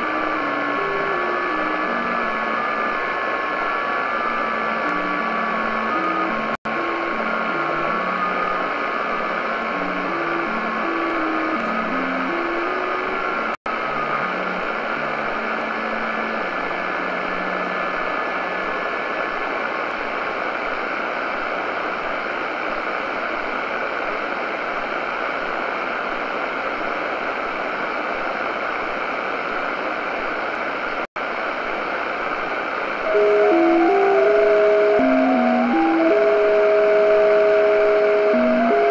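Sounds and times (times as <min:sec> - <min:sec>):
radio static hiss: 0:00.0 - 0:38.9.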